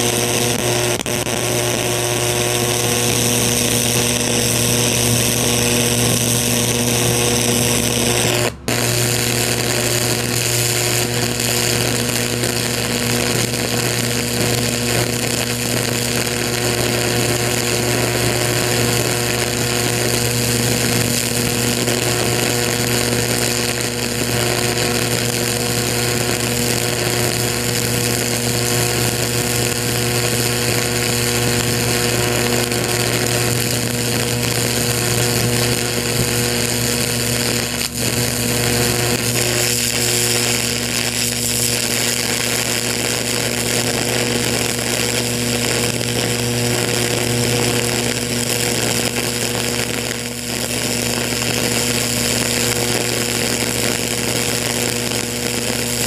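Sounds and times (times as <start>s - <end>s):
electric arc buzzing: 0.0s - 56.0s.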